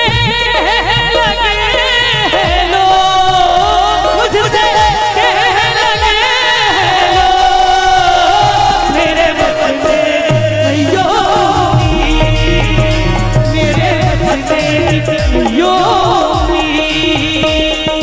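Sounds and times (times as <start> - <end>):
keyboard and drum accompaniment: 0.0 - 18.0
woman singing into microphone: 0.0 - 18.0.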